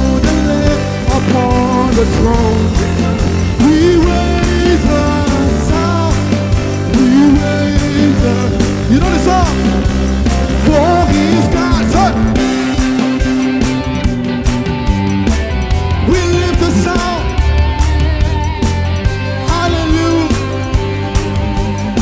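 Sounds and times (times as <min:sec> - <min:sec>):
live praise band music: 0:00.0 - 0:22.0.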